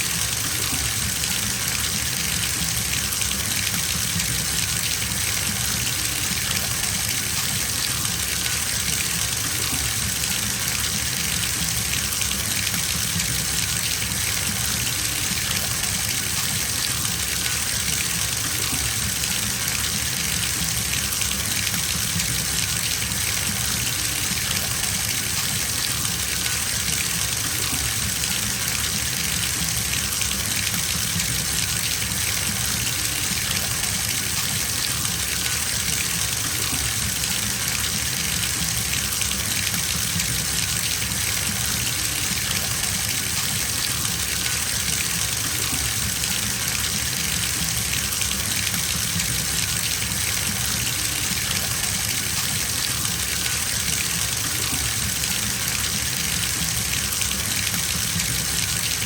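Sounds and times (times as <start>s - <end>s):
faucet running into bathtub: 0.0s - 59.0s.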